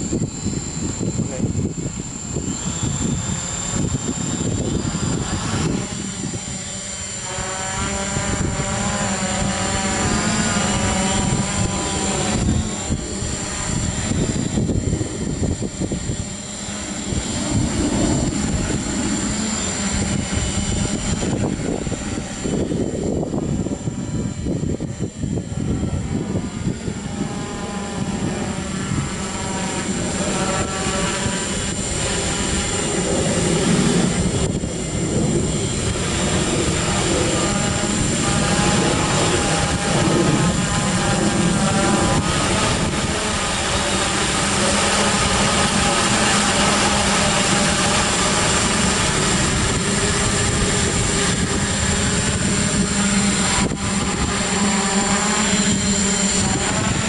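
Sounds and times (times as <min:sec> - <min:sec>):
drone motors and propellers buzzing: 0:00.0 - 0:57.0
steady low hum: 0:00.0 - 0:57.0.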